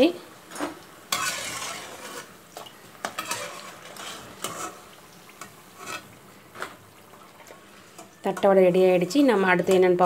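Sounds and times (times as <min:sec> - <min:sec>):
oil sizzling: 0:00.0 - 0:10.0.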